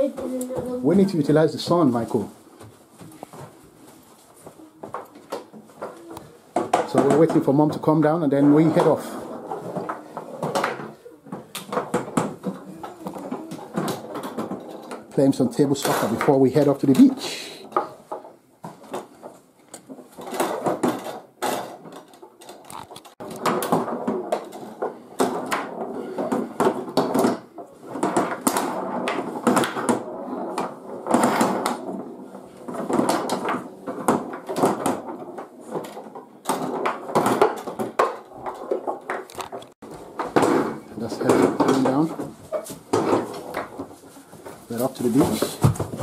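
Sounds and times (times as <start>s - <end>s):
table football clacks: 2.6s - 46.0s.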